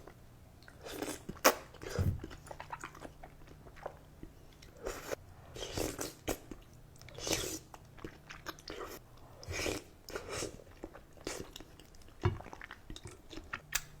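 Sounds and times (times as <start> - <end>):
person chewing noodles: 0.6 - 13.9.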